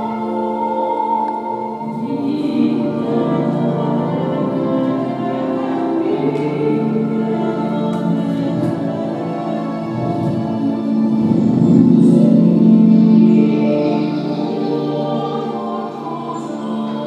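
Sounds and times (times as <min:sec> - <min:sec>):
slow choir-like chords: 0:00.0 - 0:17.0.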